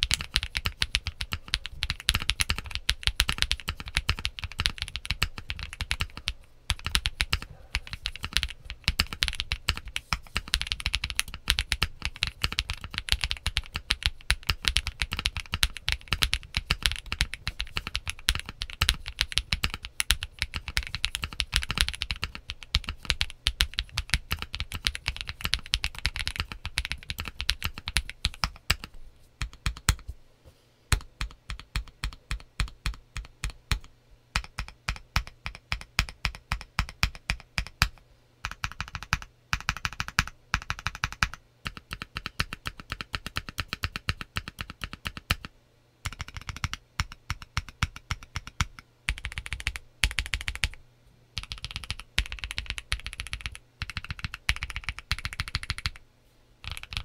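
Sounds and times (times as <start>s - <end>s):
mechanical keyboard typing: 0.0s - 30.0s, 30.9s - 50.8s, 51.4s - 56.0s, 56.6s - 57.0s.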